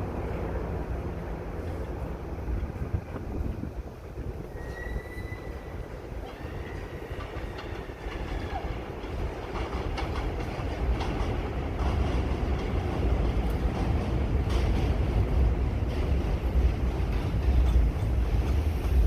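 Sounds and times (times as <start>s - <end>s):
subway train rumbling: 0.0s - 19.0s
wheels clacking over rail joints: 0.0s - 19.0s.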